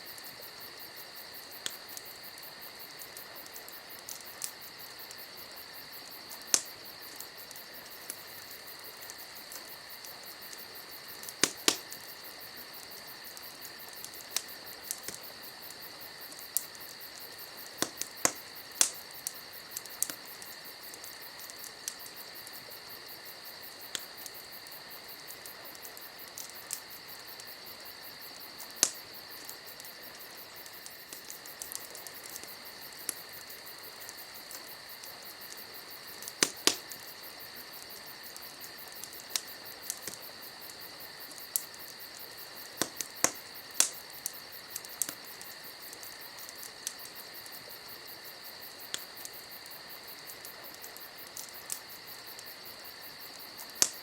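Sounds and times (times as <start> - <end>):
crickets chirping: 0.0 - 54.0
wood fire crackling and popping: 0.0 - 54.0.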